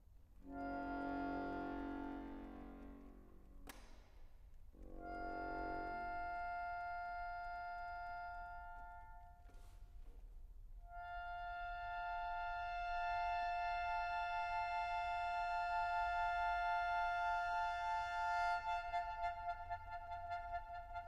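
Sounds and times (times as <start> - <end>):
accordion sustained chord: 0.4 - 3.5, 4.8 - 9.4, 10.9 - 21.0.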